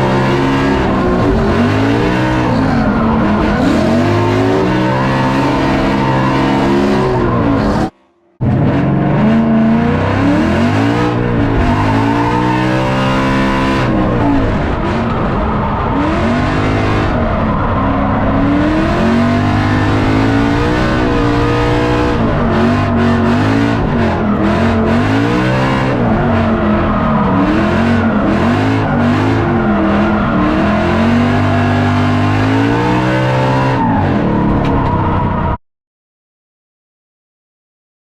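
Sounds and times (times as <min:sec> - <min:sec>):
race car engine revving: 0:00.0 - 0:35.6.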